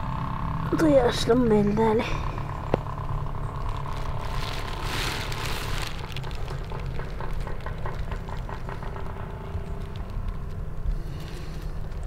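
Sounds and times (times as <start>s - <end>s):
low microphone rumble: 0.0s - 12.0s
rustling through undergrowth: 2.2s - 12.0s.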